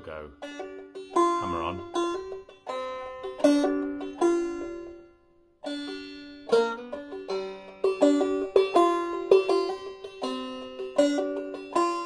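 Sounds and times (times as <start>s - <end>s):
banjo plucked and strummed: 0.0s - 12.0s.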